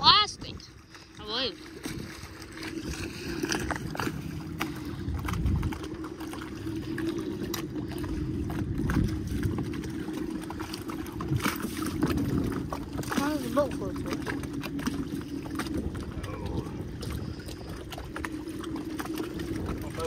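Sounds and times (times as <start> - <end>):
boat motor running: 0.0 - 20.0
water splashing against hull: 0.0 - 20.0.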